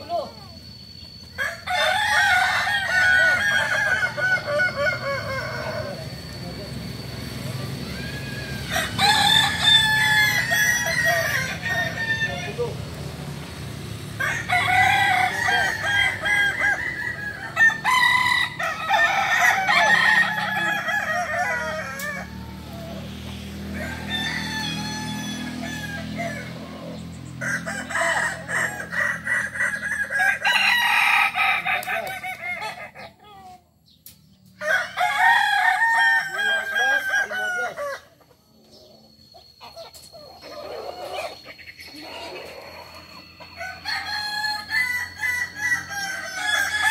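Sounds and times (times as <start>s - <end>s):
roosters crowing: 0.0s - 46.9s.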